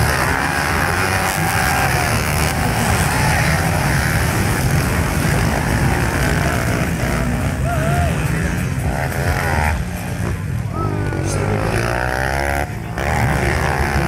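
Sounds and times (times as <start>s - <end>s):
pit bike engines revving: 0.0s - 14.0s.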